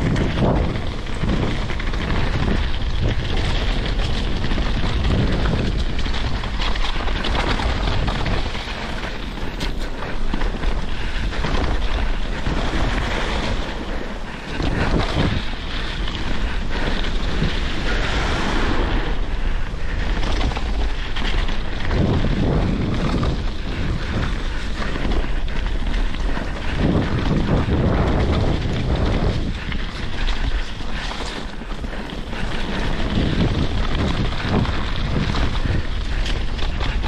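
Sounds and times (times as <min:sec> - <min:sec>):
bike tyres rolling on gravel: 0:00.0 - 0:37.0
wind buffeting microphone: 0:00.0 - 0:37.0.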